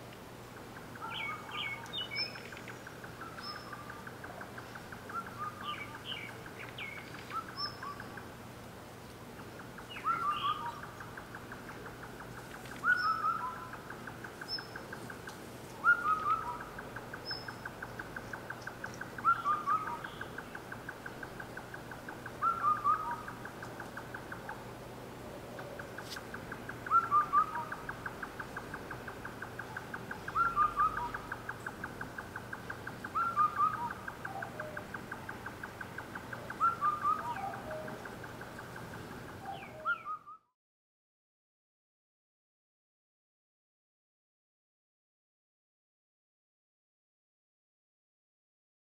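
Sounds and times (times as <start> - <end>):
night bird calling falling notes: 0.4 - 8.4, 9.3 - 40.6.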